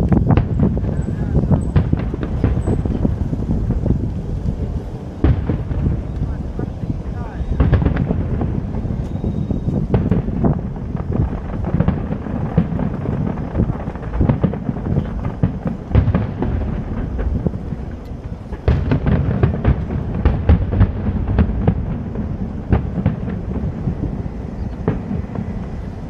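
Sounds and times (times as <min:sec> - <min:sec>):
fireworks booming rumble: 0:00.0 - 0:26.0
fireworks sharp bangs: 0:00.0 - 0:26.0.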